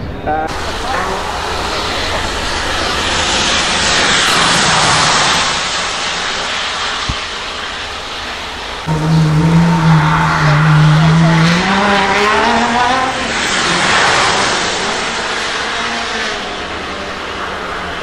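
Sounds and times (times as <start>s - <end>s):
supercar engine whine: 0.0s - 18.0s
tyres hissing through water: 0.5s - 17.6s.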